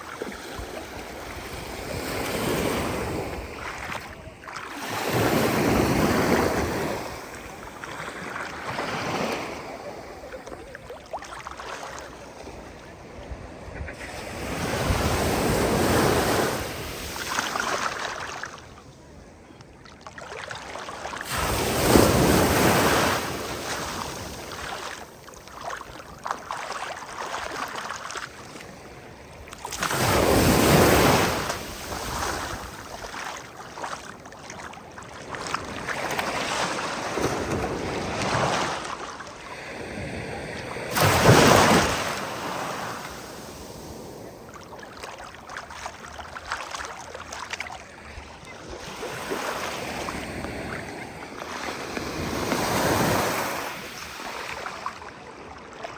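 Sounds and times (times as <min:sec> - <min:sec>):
ocean waves crashing: 0:00.0 - 0:18.6, 0:21.0 - 0:55.2.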